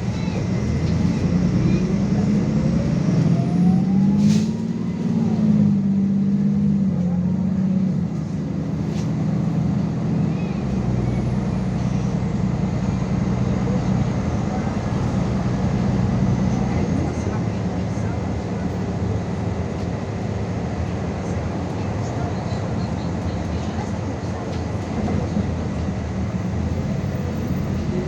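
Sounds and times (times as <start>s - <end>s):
bus engine running: 0.0s - 28.0s.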